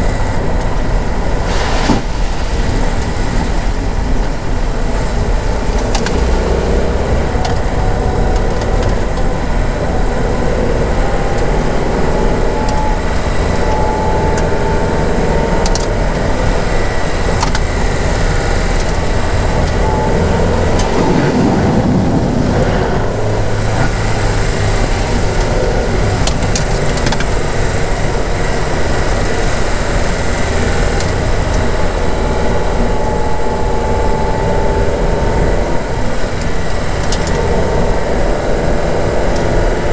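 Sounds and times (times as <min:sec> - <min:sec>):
car driving through water: 0:00.0 - 0:39.9
car engine and tyre noise: 0:00.0 - 0:39.9
faint rising whine: 0:00.0 - 0:39.9.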